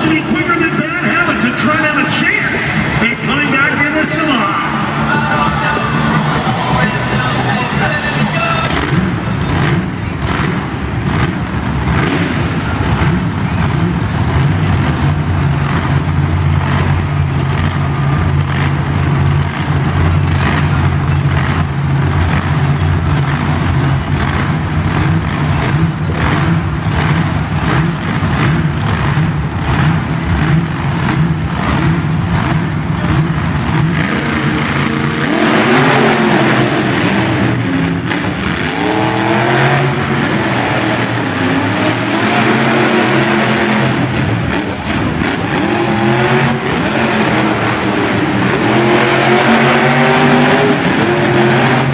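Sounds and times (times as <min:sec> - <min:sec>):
monster truck engines revving: 0:00.0 - 0:51.9.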